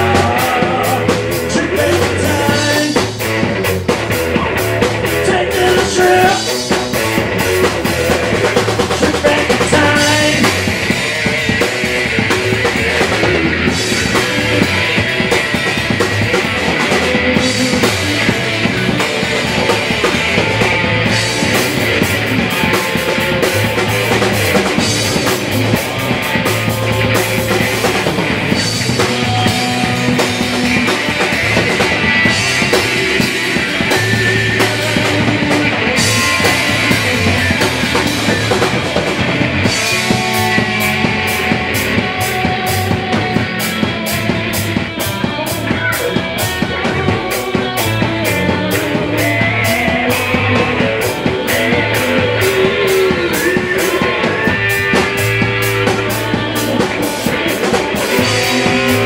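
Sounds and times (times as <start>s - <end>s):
electric guitars: 0.0s - 59.0s
pounding drum kit: 0.0s - 59.0s.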